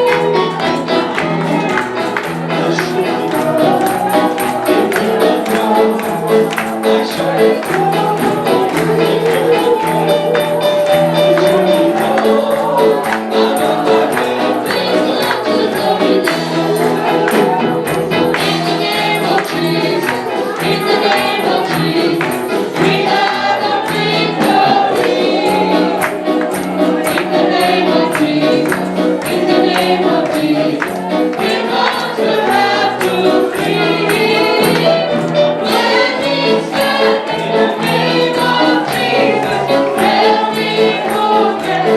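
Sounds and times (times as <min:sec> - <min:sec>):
accompanying band: 0:00.0 - 0:41.9
group of voices singing: 0:00.0 - 0:41.9
tambourine shaking: 0:00.0 - 0:41.9.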